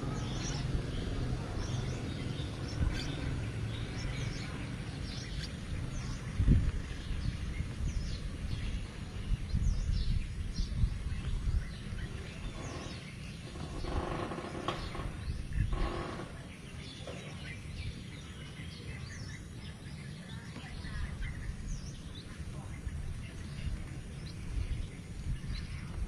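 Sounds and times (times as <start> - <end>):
nestlings chirping: 0.0 - 26.0.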